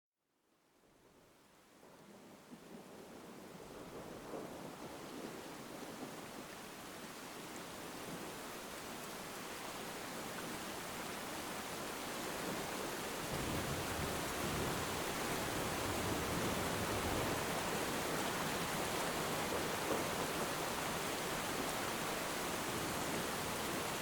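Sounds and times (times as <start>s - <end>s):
heavy rain falling: 2.0s - 24.0s.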